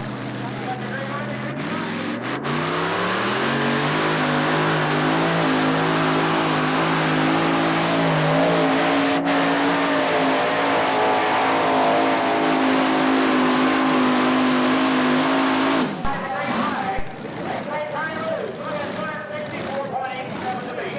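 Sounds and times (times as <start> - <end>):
tractor engine at high revs: 0.0 - 20.9.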